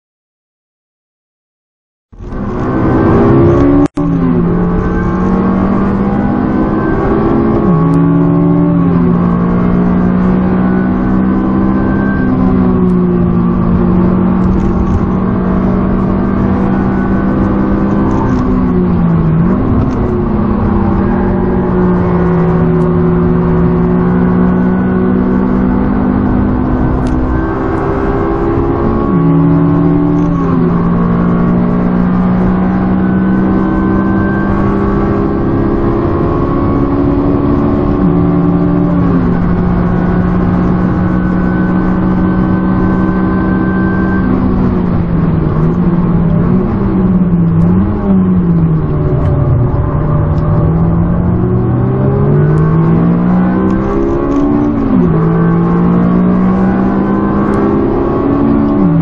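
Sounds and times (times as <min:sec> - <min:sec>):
car engine pulling hard: 0:02.2 - 0:59.0.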